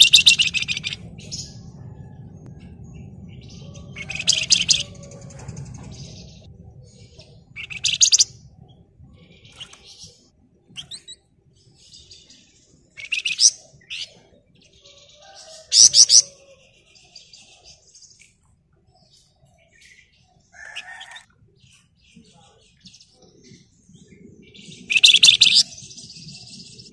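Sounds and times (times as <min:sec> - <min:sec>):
songbird chattering trills: 0:00.0 - 0:01.9, 0:03.0 - 0:18.3, 0:19.1 - 0:26.9
quiet bird chirps: 0:00.0 - 0:26.9.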